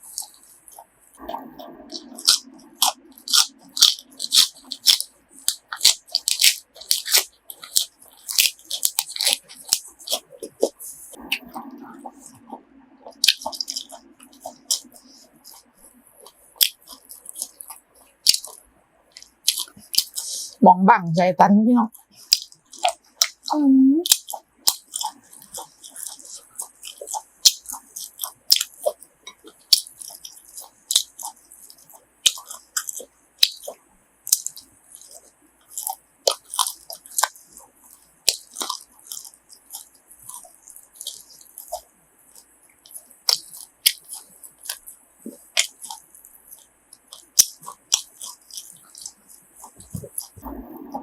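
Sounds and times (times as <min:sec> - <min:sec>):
wet chewing clicks and smacks: 0:00.0 - 0:20.6, 0:21.9 - 0:51.0.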